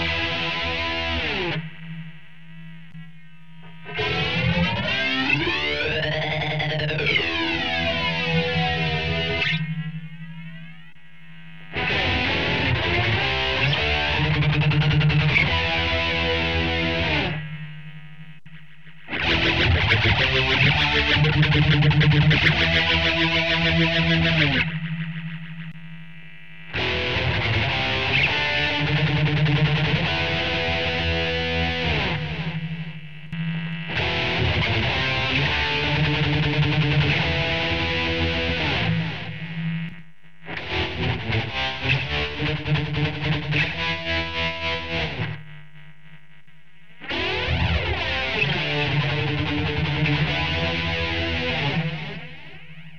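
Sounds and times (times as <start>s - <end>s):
distorted electric guitar with flanger: 0.0s - 52.9s.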